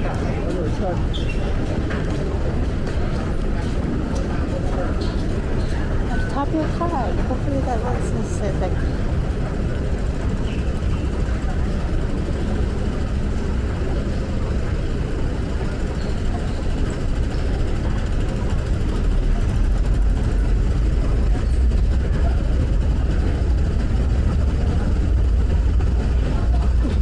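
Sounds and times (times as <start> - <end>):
metro station low rumble: 0.0 - 27.0.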